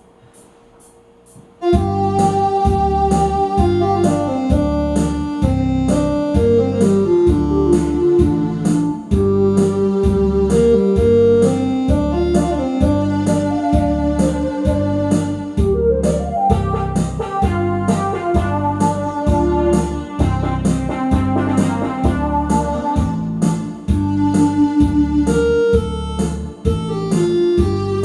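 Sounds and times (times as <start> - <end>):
bass and drum beat: 0.3 - 28.0
electronic keyboard melody: 1.6 - 28.0.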